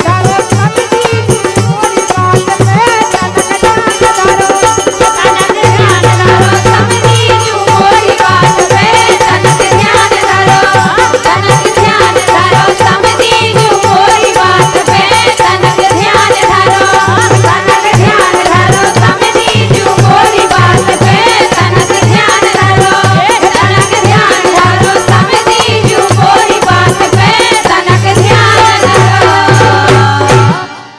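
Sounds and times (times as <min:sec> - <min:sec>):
steady drum beat: 0:00.0 - 0:30.8
rattling percussion: 0:00.0 - 0:30.9
women singing folk song: 0:00.0 - 0:30.9.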